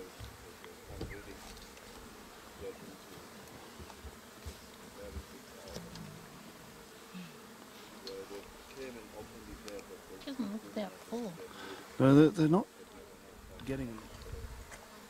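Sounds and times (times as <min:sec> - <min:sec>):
flies buzzing: 0:00.0 - 0:15.0.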